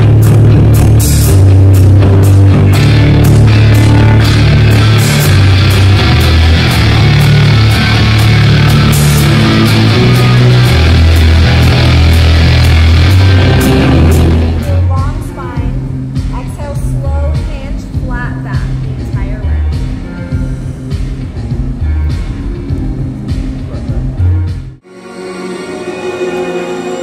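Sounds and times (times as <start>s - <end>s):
loud rock music: 0.0s - 27.0s.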